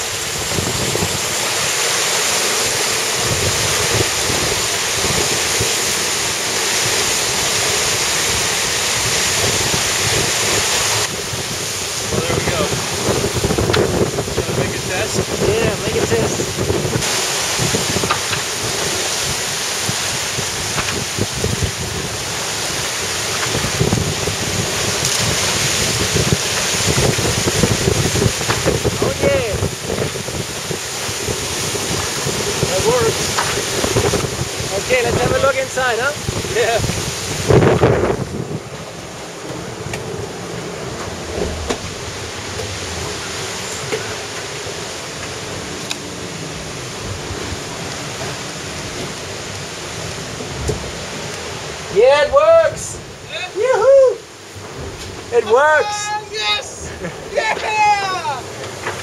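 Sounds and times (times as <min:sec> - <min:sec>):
rushing wind: 0:00.0 - 0:59.0
sea noise: 0:00.0 - 0:59.0
wind buffeting microphone: 0:00.0 - 0:59.0.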